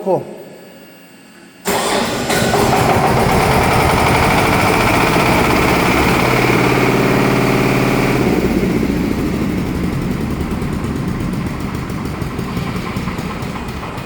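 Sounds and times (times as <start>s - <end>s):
diesel pump engine running: 1.7s - 14.0s.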